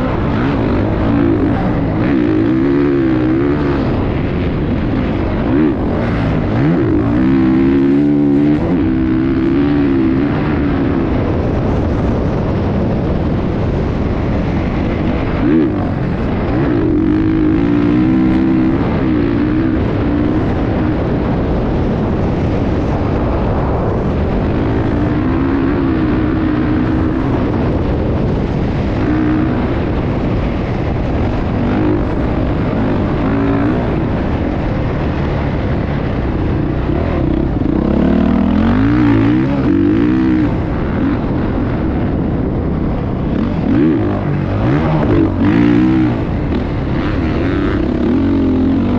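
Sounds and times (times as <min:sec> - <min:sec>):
loud rushing noise: 0:00.0 - 0:48.9
motorcycle engine revving: 0:00.0 - 0:48.9.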